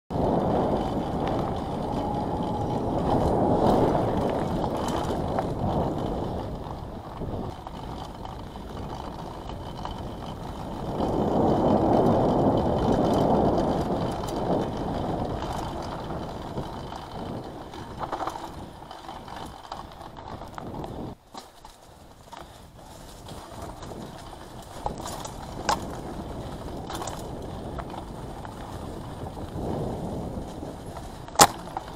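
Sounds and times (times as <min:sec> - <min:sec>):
wind rush on microphone: 0:00.1 - 0:21.2, 0:21.8 - 0:31.9
bike rattling and clicking: 0:00.1 - 0:31.9
bike tyre rumble: 0:00.1 - 0:31.9.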